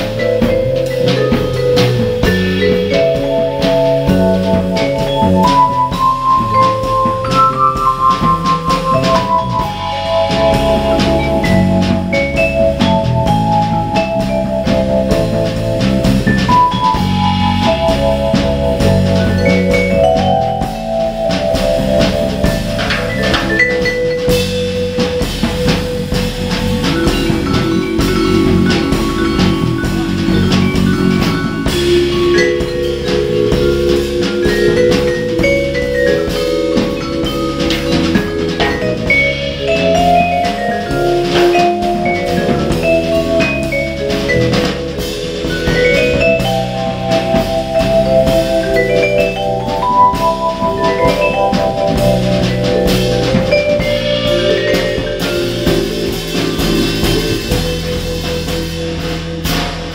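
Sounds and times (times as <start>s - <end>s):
vibraphone melody: 0.0s - 59.6s
bass line: 0.0s - 59.9s
drum groove: 0.0s - 59.9s.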